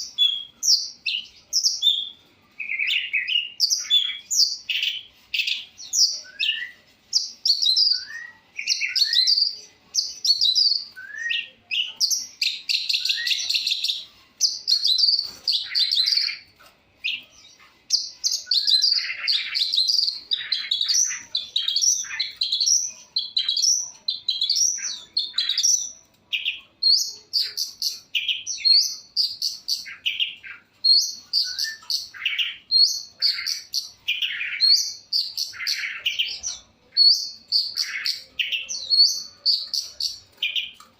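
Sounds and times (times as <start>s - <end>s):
bird singing chirps and whistles: 0.0s - 16.4s, 17.0s - 40.8s.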